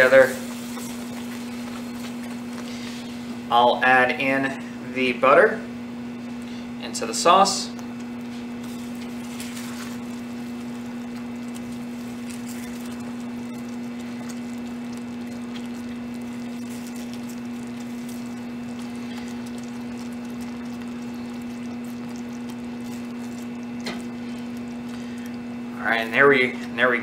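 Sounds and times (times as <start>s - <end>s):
spatula stirring: 0.0s - 3.4s, 7.4s - 26.6s
caramel sauce bubbling: 0.0s - 3.5s, 5.9s - 26.8s
steady low hum: 0.0s - 27.0s.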